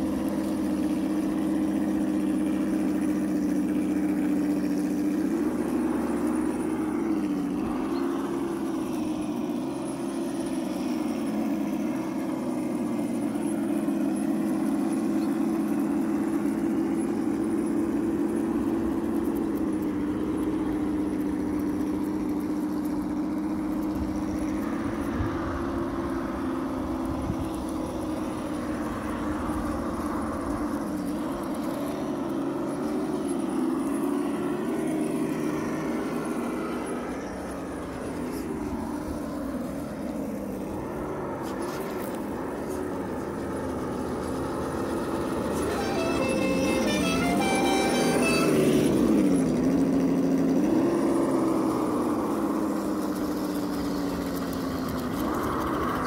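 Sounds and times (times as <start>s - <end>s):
motor hum: 0.0s - 56.0s.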